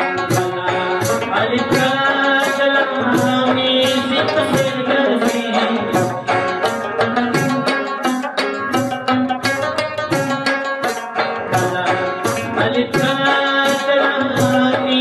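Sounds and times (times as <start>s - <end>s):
percussion beat: 0.0s - 15.0s
plucked lute folk melody: 0.0s - 15.0s.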